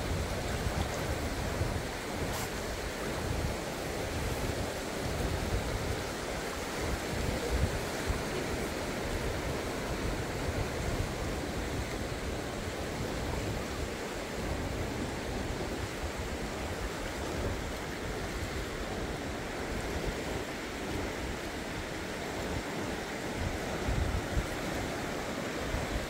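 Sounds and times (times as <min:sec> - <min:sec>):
river water rushing: 0:00.0 - 0:26.0
wind on microphone: 0:00.0 - 0:26.0.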